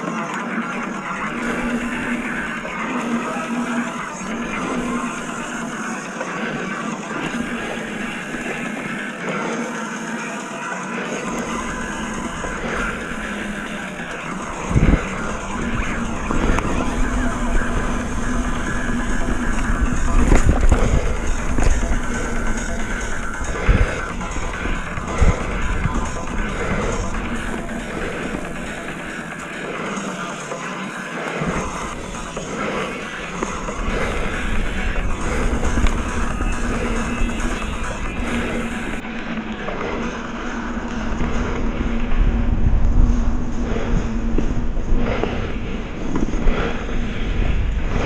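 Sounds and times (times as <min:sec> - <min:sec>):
bike tyres rumbling over trail: 0:00.0 - 0:09.8, 0:11.0 - 0:48.0
wind on microphone: 0:00.7 - 0:09.2, 0:11.0 - 0:30.5, 0:31.3 - 0:48.0.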